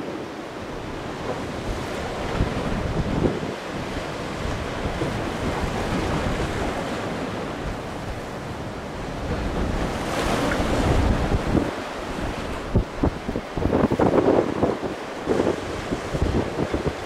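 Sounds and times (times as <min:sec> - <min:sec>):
ocean surf breaking: 0:00.0 - 0:17.0
wind buffeting microphone: 0:00.7 - 0:17.0.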